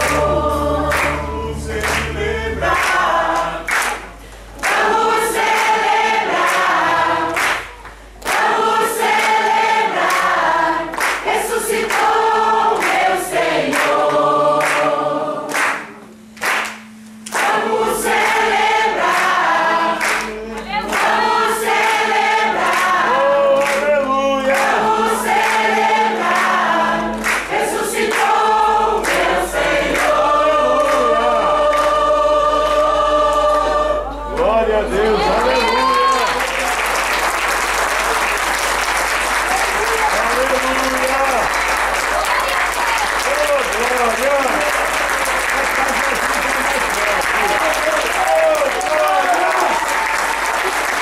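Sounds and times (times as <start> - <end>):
church choir singing: 0.0 - 42.4, 43.0 - 51.0
hand-clapping: 0.9 - 1.2, 1.8 - 2.1, 2.7 - 28.4, 29.0 - 30.2, 35.5 - 51.0.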